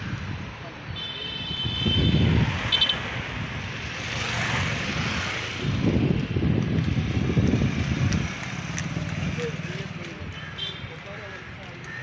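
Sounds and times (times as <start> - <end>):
wind buffeting microphone: 0.0 - 0.9, 1.5 - 12.0
street traffic: 0.0 - 12.0.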